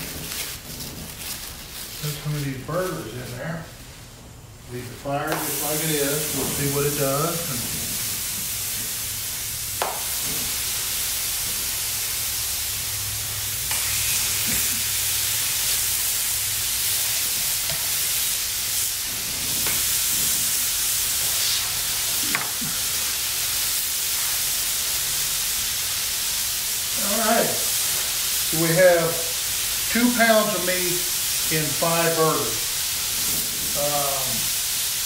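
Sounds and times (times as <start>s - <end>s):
meat patties sizzling: 0.0s - 4.1s, 4.8s - 35.0s.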